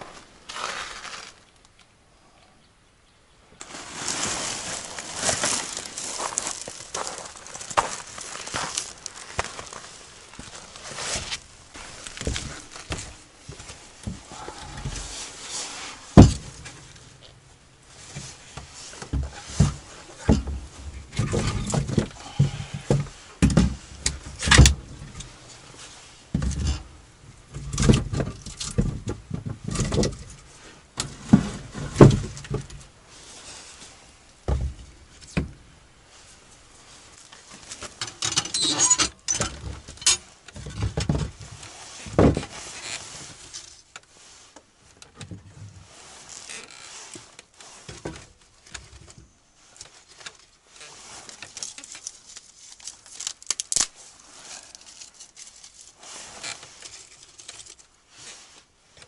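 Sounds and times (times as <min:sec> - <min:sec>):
crackly rustle: 0:00.0 - 0:02.5, 0:03.5 - 0:59.0.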